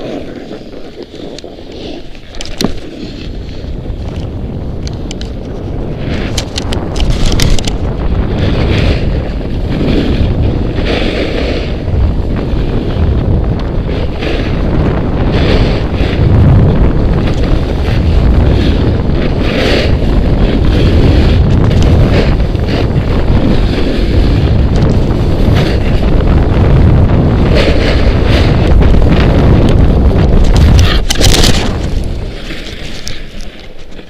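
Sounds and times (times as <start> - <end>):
snowboard scraping over snow: 0.0 - 34.0
wind buffeting on microphone: 0.0 - 34.0.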